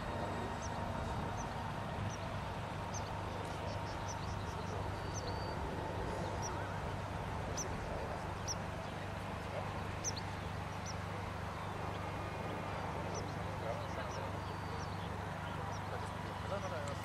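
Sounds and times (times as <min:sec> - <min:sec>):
distant electric fan whine: 0:00.0 - 0:17.0
small birds chirping: 0:00.0 - 0:17.0.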